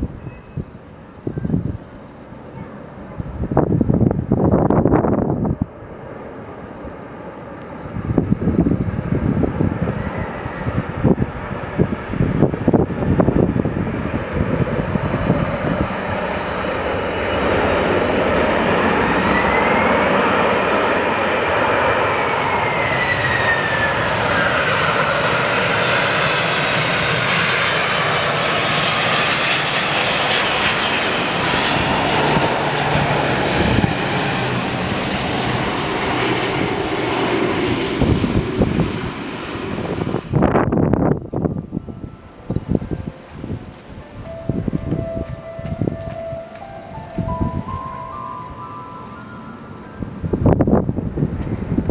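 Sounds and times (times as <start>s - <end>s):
wind buffeting microphone: 0.0s - 6.0s, 7.8s - 48.6s, 49.8s - 51.9s
jet engines roaring: 0.0s - 51.9s.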